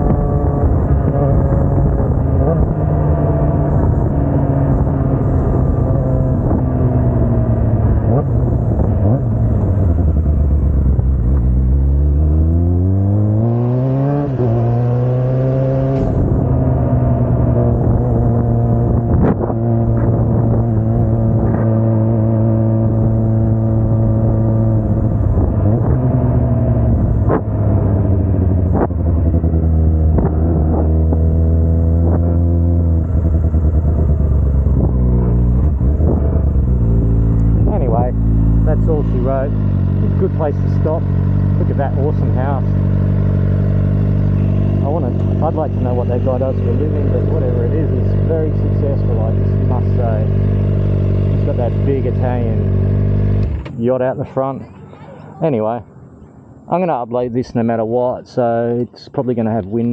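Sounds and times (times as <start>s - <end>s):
motorcycle engine revving and cruising: 0.0s - 54.9s.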